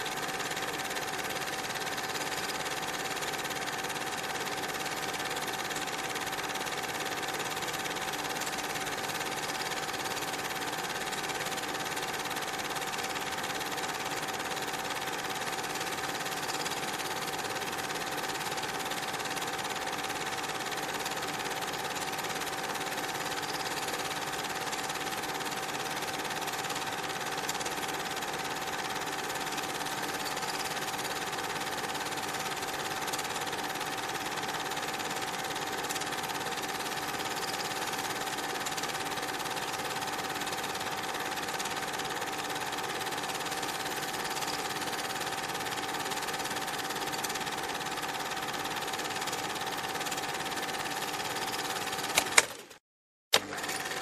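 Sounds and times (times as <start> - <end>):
film projector whirring and clattering: 0.0 - 54.0.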